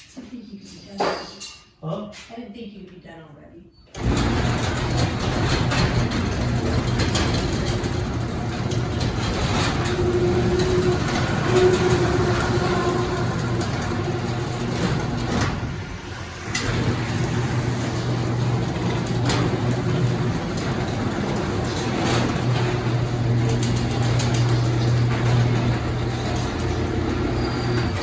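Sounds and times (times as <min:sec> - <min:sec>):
door rollers squeaking: 0:03.9 - 0:28.0
garage door opener motor: 0:03.9 - 0:28.0.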